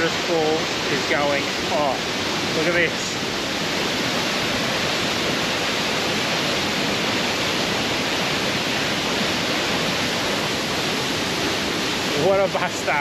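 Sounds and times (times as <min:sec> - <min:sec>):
loud rush of falling water: 0:00.0 - 0:13.0.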